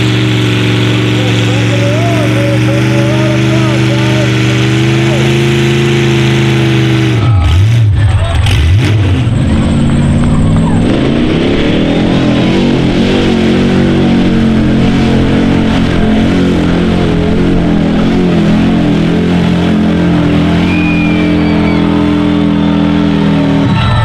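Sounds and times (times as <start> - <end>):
truck engine revving high: 0.0 - 24.0.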